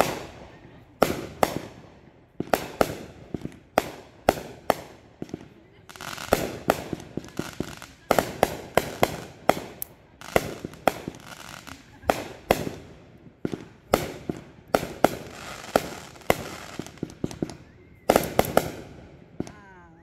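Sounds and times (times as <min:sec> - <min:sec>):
fireworks bursting in sharp bangs: 0:00.0 - 0:19.8.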